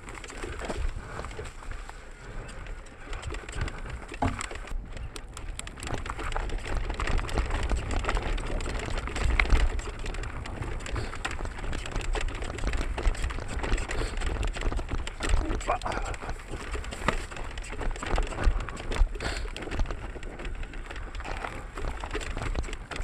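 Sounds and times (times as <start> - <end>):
bike knocking and rattling: 0.0 - 23.0
wind rumble on microphone: 0.0 - 23.0.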